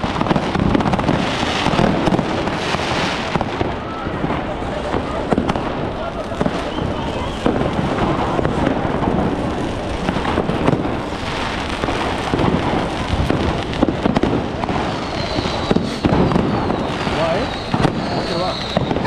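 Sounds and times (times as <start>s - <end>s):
firecrackers crackling bangs: 0.0s - 19.0s
firework whistle: 0.0s - 19.0s.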